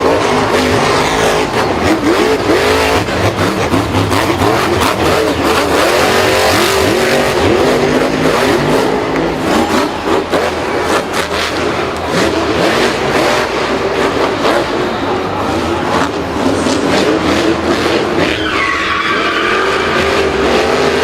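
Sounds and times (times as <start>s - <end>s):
steady noisy background: 0.0s - 21.0s
vehicle engines revving: 0.0s - 21.0s.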